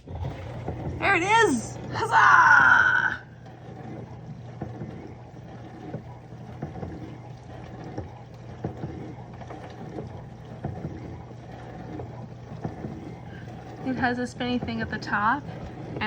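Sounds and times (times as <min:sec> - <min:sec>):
dishwasher pump hum: 0:00.0 - 0:16.0.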